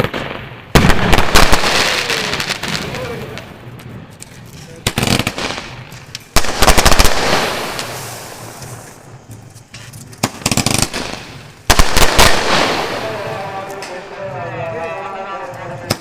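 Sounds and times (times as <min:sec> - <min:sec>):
fireworks cracking: 0:00.0 - 0:16.0.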